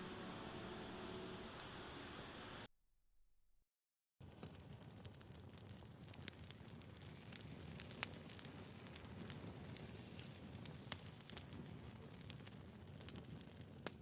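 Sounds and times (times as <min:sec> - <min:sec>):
low fire hiss: 0:00.0 - 0:02.7, 0:04.2 - 0:14.0
wood fire crackling and popping: 0:00.0 - 0:02.7, 0:04.2 - 0:14.0.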